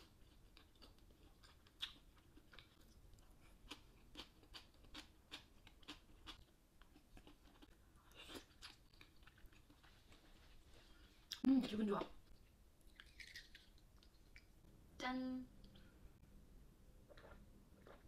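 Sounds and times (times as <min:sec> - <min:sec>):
person chewing food: 0:00.0 - 0:11.5, 0:12.4 - 0:14.5, 0:17.1 - 0:18.0.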